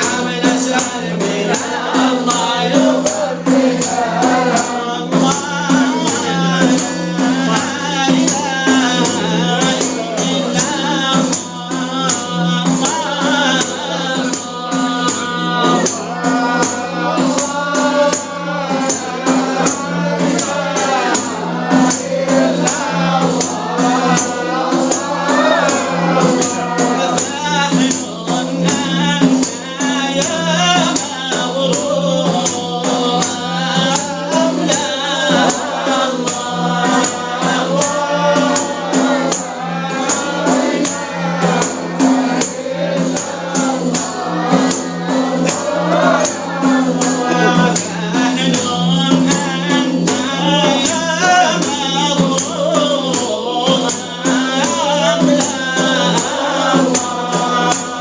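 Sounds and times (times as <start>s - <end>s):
group of voices singing: 0.0s - 58.0s
hand drum with jingles: 0.0s - 58.0s
lead voice chanting: 0.0s - 58.0s.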